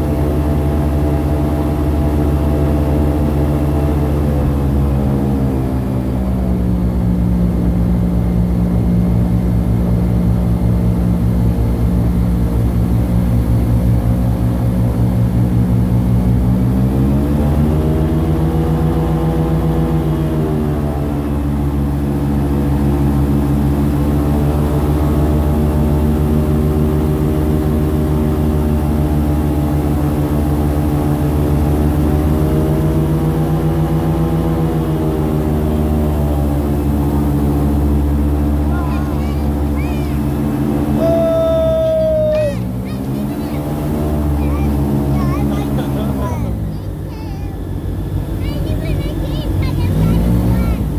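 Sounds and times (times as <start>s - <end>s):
airboat engine and propeller: 0.0s - 50.9s.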